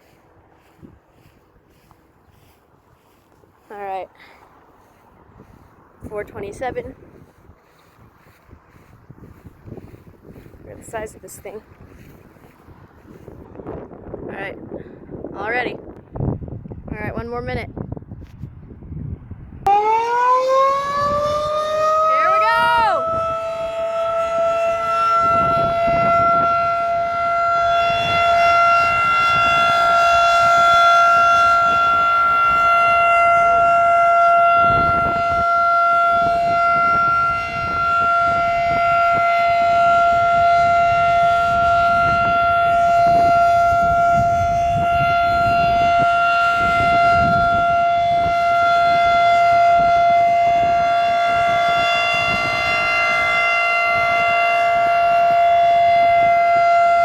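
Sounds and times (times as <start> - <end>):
tornado warning siren: 0.0 - 16.7, 18.2 - 57.0.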